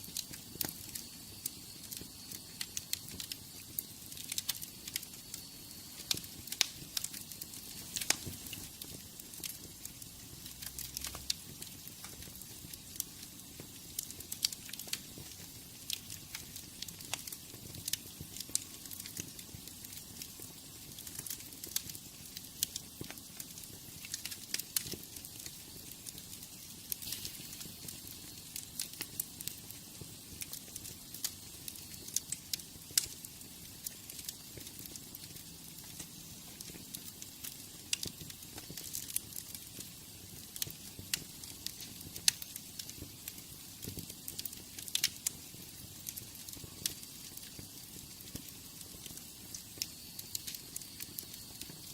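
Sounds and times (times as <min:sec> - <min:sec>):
low rumble of flame: 0:00.0 - 0:51.9
wood fire pops and snaps: 0:00.0 - 0:51.9.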